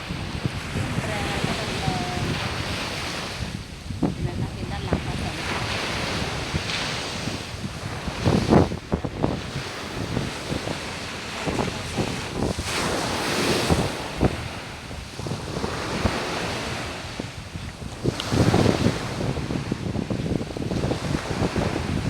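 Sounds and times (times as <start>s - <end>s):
sea waves washing onto beach: 0.0s - 22.0s
wind gusting on microphone: 0.0s - 22.0s.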